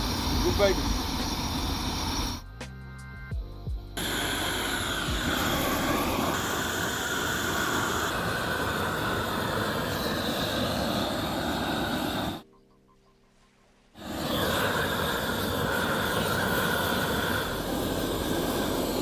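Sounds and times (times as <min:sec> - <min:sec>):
gas torches roaring: 0:00.0 - 0:02.4, 0:04.0 - 0:12.4, 0:14.0 - 0:19.0.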